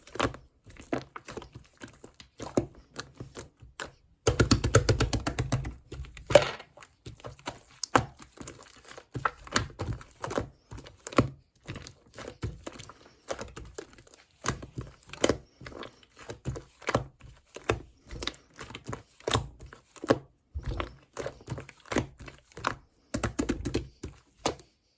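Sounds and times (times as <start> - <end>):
slime squishing and crackling: 0.0 - 24.7.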